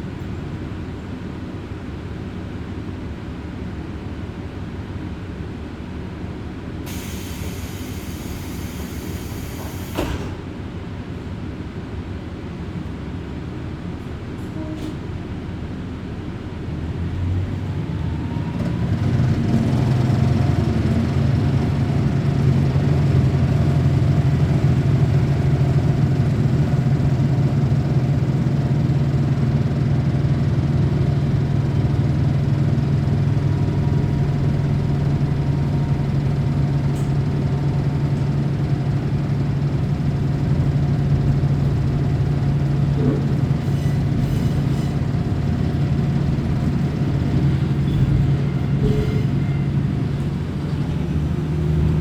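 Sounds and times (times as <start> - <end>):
diesel railcar engine: 0.0 - 52.0.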